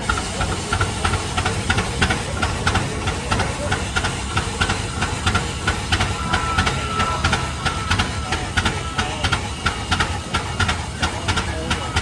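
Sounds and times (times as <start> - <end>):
two-cylinder engine exhaust beats: 0.0 - 12.0.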